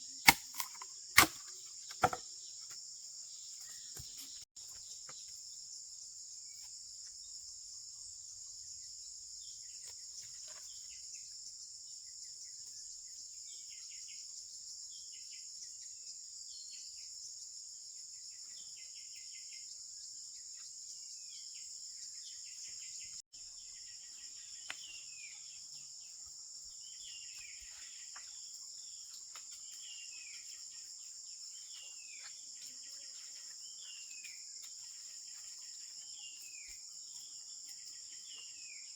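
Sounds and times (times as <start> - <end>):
chorus of night insects: 0.0 - 38.9.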